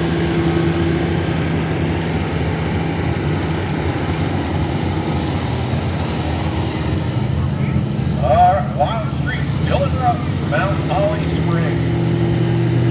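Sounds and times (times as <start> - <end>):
truck engine running under load: 0.0 - 12.9.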